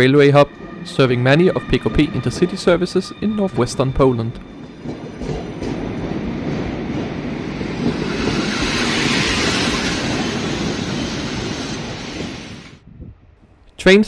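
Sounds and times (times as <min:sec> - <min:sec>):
train wheel-on-rail rush: 0:00.0 - 0:13.2.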